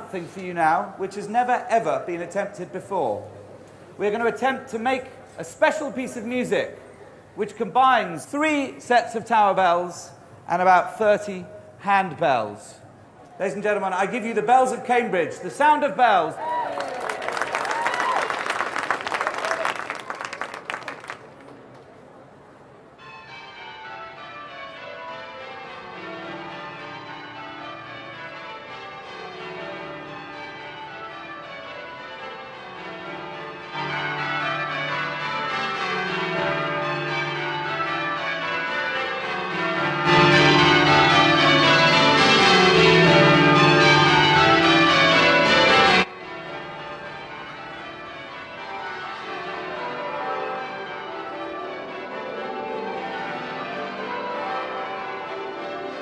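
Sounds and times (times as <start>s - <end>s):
church bells change ringing: 0.0s - 12.6s, 22.9s - 56.0s.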